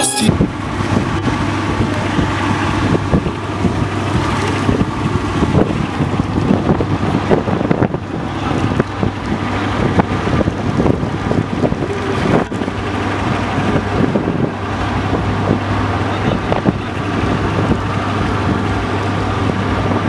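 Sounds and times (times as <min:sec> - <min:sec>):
wind buffeting microphone: 0:00.3 - 0:20.0.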